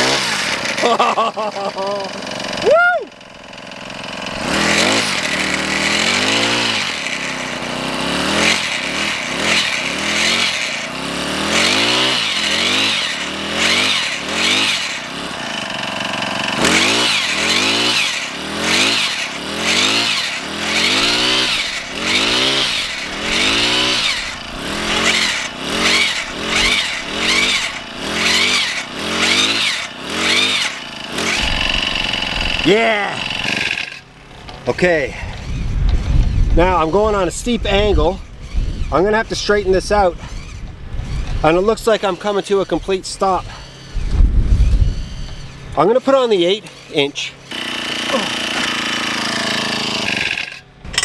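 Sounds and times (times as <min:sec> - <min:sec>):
earth auger engine revving: 0:00.0 - 0:51.0.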